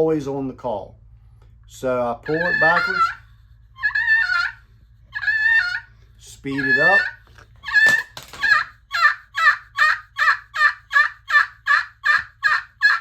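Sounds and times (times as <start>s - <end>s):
turkey call yelps: 2.2s - 13.0s.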